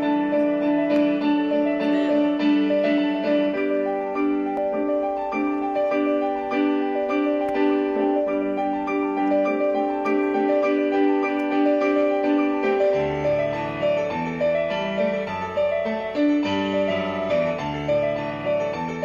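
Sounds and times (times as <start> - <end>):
keyboard melody from speaker: 0.0 - 19.0.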